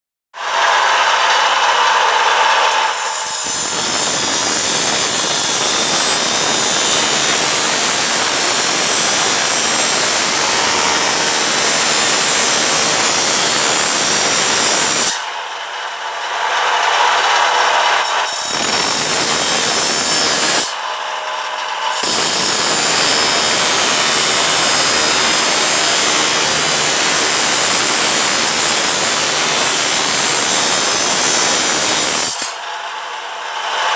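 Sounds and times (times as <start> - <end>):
power tool harsh hiss: 0.4 - 15.5, 18.0 - 20.8, 21.8 - 33.9
tool motor hum: 0.4 - 33.9.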